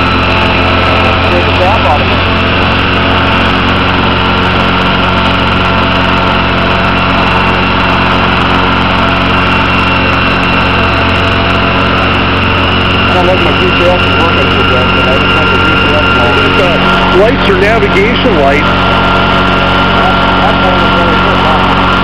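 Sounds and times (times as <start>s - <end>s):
model helicopter rotor drone: 0.0s - 22.0s.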